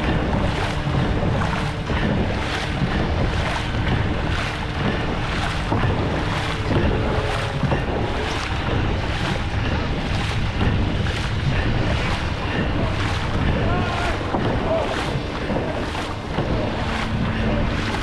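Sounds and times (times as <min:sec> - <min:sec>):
paddles splashing in water: 0:00.0 - 0:18.0
wind buffeting microphone: 0:00.0 - 0:18.0.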